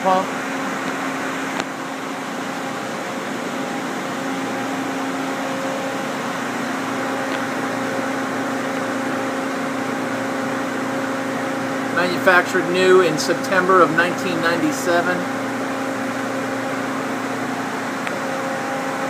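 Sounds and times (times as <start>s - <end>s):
steady machinery hum: 0.0s - 19.0s.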